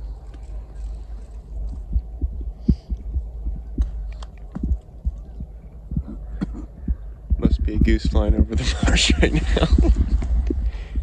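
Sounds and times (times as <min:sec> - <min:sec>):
faint crackles: 0:00.0 - 0:11.0
low rumble on microphone: 0:00.0 - 0:11.0.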